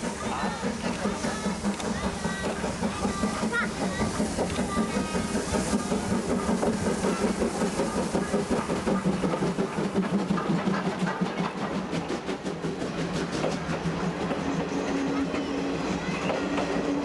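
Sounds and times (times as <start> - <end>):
train running past: 0.0 - 17.0.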